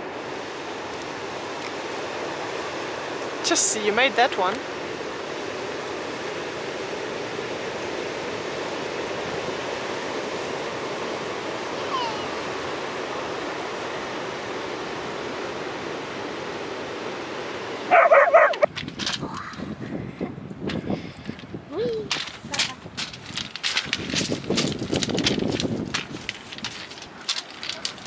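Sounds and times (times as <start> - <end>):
ocean surf breaking: 0.0 - 19.8, 22.1 - 28.0.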